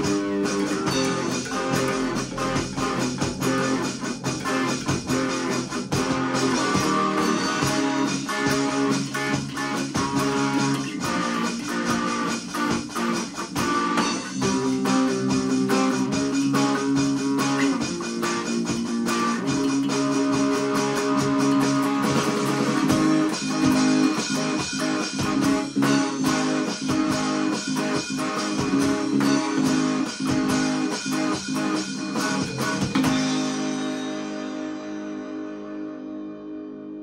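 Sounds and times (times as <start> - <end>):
rock band with guitars and bass: 0.0 - 37.0.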